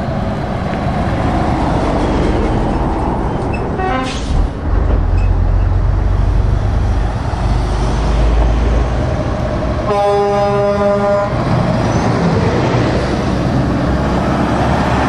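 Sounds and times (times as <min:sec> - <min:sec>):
deep truck engine rumble: 0:00.0 - 0:15.0
trucks and vans passing: 0:00.0 - 0:15.0.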